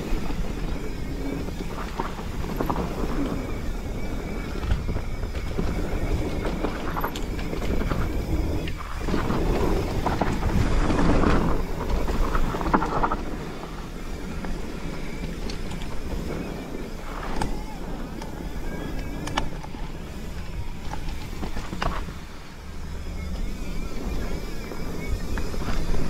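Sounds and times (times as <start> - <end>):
bike clicking and rattling: 0.0 - 26.0
bike tyres on dirt: 0.0 - 26.0
wind on microphone: 0.0 - 26.0.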